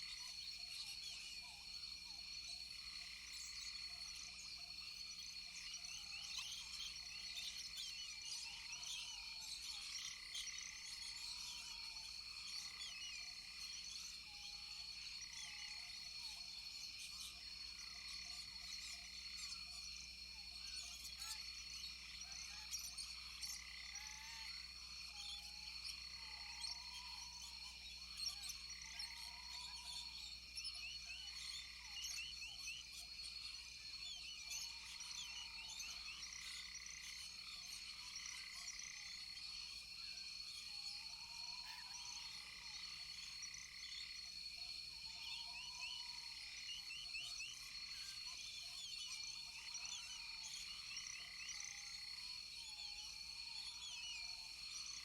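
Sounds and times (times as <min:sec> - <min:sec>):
frog chorus: 0:00.0 - 0:55.0
high insect drone: 0:00.0 - 0:55.0.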